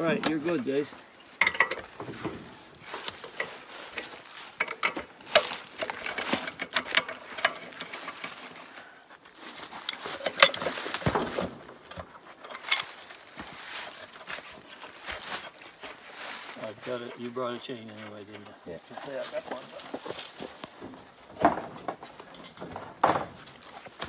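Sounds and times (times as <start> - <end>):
tire being handled: 0.0 - 24.0.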